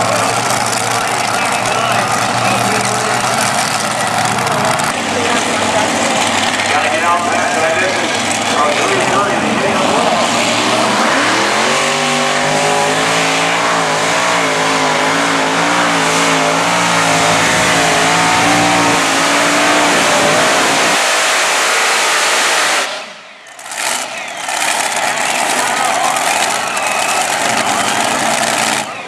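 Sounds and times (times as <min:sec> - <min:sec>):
tractor engines at full throttle: 0:00.0 - 0:29.0.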